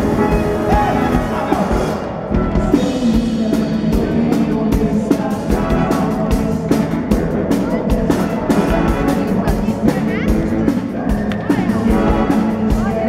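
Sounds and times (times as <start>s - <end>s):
drum kit beat: 0.0s - 13.0s
live band music: 0.0s - 13.0s.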